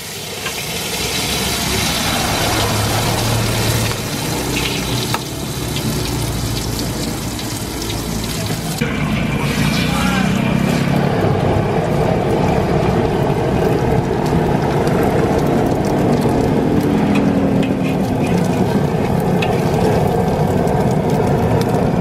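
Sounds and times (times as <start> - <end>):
egg sizzling in hot oil: 0.0 - 22.0
loud steady low roar: 1.4 - 22.0.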